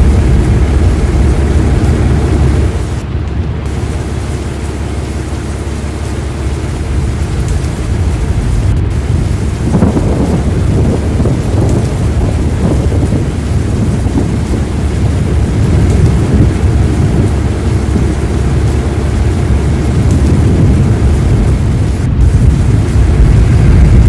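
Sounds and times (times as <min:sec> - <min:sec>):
rain hissing: 0:00.0 - 0:24.0
thunder rumbling: 0:00.0 - 0:24.0.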